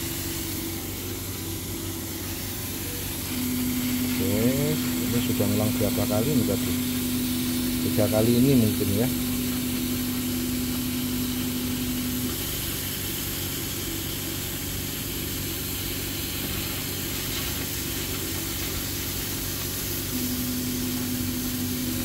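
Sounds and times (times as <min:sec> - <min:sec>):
laser cutter fans hissing: 0:00.0 - 0:22.0.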